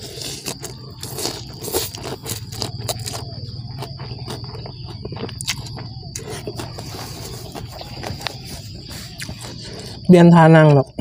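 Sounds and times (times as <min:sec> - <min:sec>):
wet chewing: 0:00.0 - 0:10.2.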